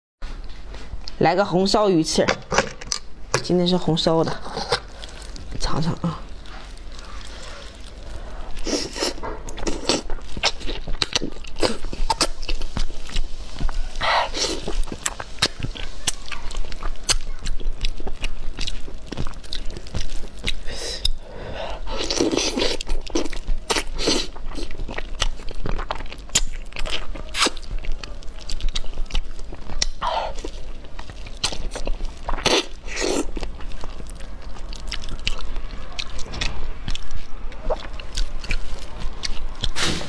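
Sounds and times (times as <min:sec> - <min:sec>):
wet chewing and crunching: 0:03.8 - 0:40.0.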